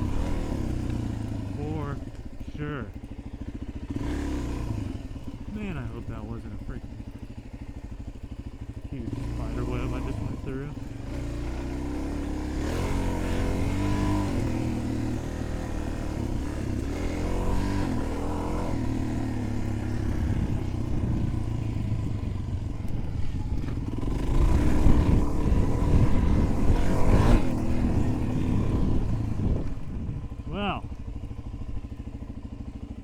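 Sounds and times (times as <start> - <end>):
engine knocks and clatter: 0.0 - 33.0
motorcycle engine revving: 0.0 - 33.0.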